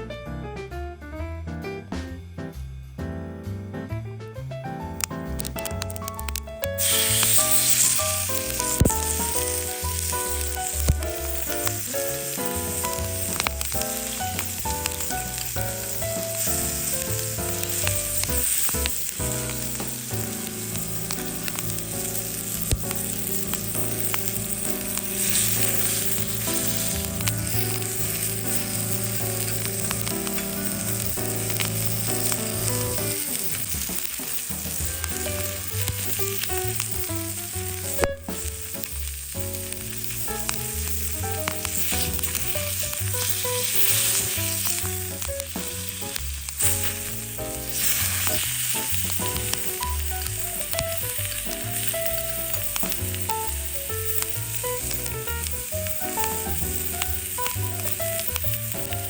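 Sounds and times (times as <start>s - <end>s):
melodic background music: 1.5s - 59.0s
food sizzling in a pan: 5.6s - 59.0s.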